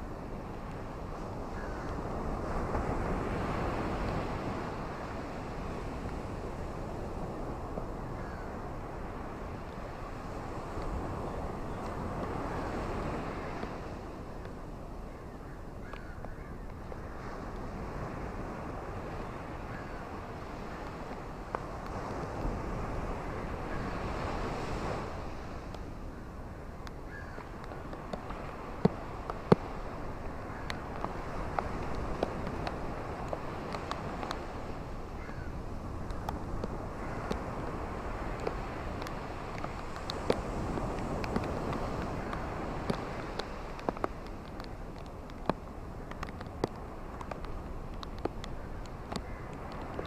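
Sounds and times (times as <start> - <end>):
ocean waves washing onto shore: 0.0 - 50.0
wind rumbling on microphone: 0.0 - 50.0.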